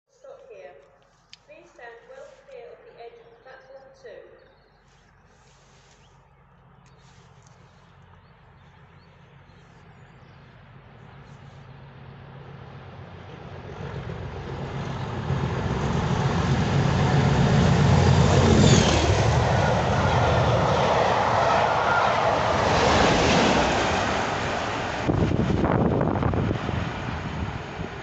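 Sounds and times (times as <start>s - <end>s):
diesel locomotive passing: 4.8s - 28.0s.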